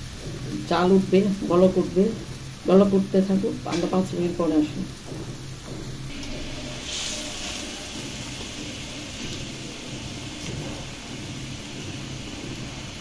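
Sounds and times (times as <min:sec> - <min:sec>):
broth boiling and bubbling: 0:00.0 - 0:13.0.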